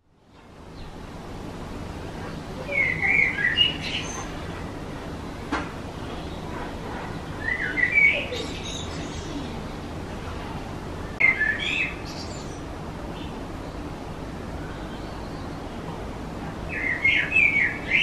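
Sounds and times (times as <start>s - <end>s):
outdoor background noise: 0.0s - 18.0s
songbird singing: 0.0s - 18.0s.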